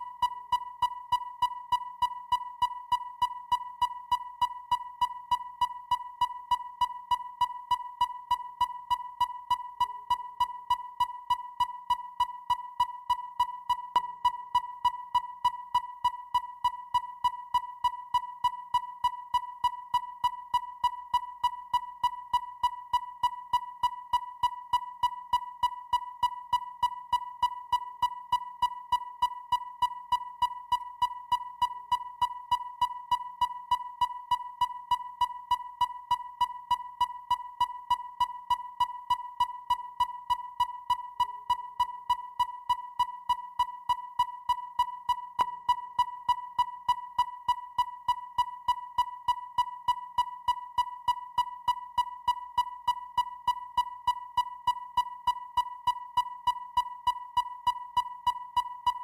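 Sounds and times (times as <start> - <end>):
sonar beeping: 0.0 - 59.0.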